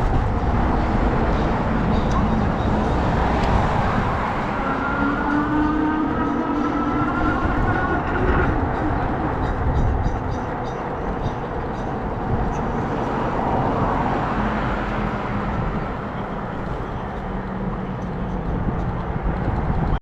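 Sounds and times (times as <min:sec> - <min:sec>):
road rumble: 0:00.0 - 0:20.0
wind rush: 0:00.0 - 0:20.0.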